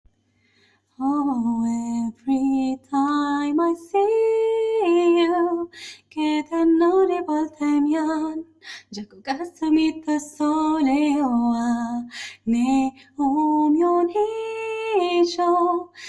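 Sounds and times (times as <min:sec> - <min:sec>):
woman singing unaccompanied ballad: 0:00.9 - 0:16.0.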